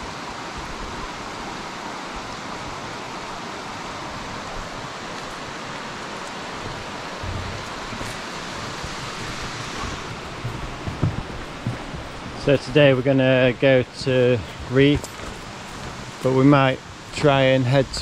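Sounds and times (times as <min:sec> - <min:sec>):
river water over rocks: 0:00.0 - 0:18.0.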